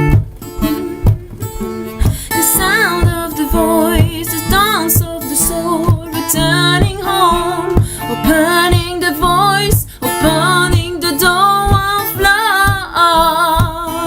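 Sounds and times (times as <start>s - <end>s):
strummed acoustic guitar: 0.0s - 14.0s
woman singing: 0.6s - 14.0s.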